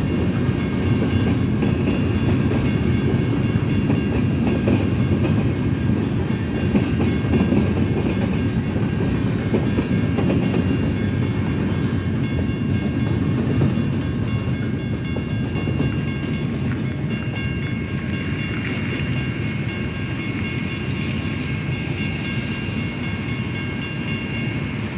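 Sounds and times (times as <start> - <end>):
crossing warning bell ringing: 0.0 - 24.9
freight train cars rumbling: 0.0 - 24.9.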